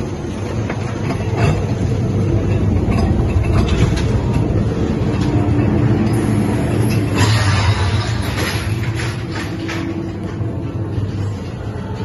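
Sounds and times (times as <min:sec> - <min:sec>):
train car rumbling on track: 0:00.0 - 0:12.0.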